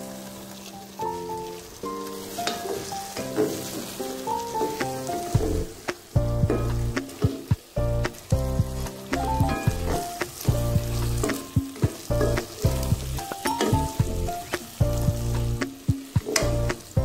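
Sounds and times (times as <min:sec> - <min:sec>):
vegetables sizzling in a pot: 0:00.0 - 0:17.0
wooden spatula stirring: 0:00.2 - 0:16.8
background music with a beat: 0:02.4 - 0:17.0.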